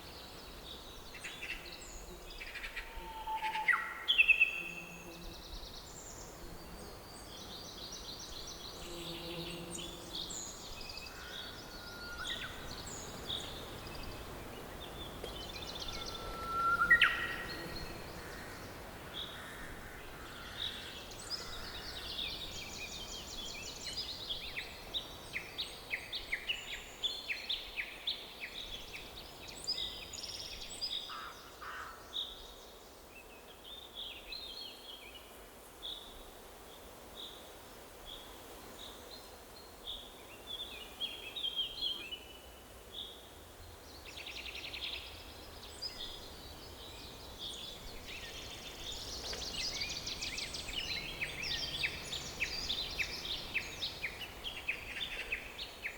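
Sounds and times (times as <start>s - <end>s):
soft background hiss: 0.0s - 55.9s.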